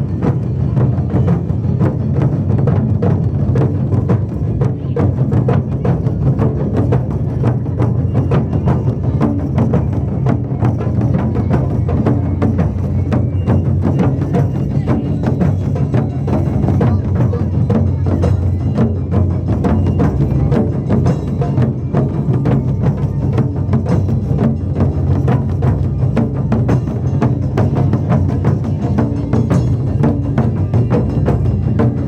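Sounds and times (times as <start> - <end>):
deep booming drum tones: 0.0 - 32.0
taiko drum ensemble: 0.0 - 32.0.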